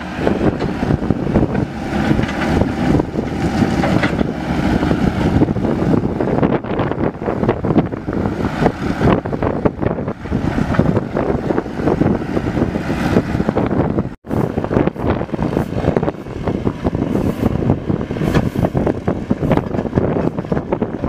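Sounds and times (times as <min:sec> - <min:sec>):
diesel engine rumbling under load: 0:00.0 - 0:21.0
wind buffeting microphone: 0:00.0 - 0:21.0.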